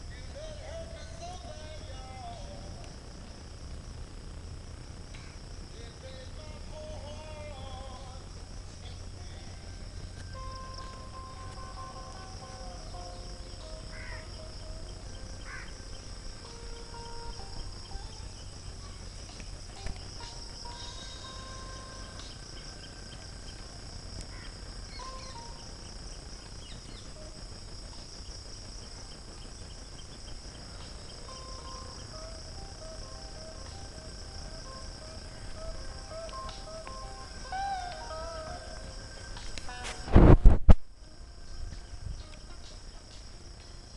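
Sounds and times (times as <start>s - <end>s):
insects chirring: 0.0s - 43.9s
steady low rumble: 0.0s - 43.9s.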